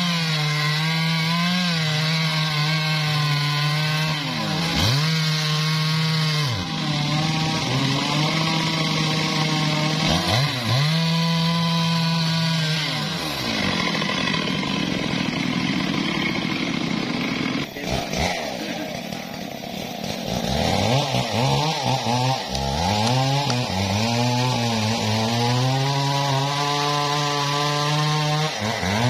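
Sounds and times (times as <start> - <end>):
chainsaw cutting log: 0.0 - 29.0
chainsaw revving: 0.0 - 29.0.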